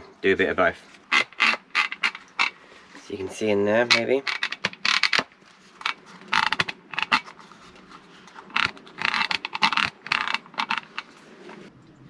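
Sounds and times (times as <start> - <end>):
hard plastic scraping: 0.8 - 11.7.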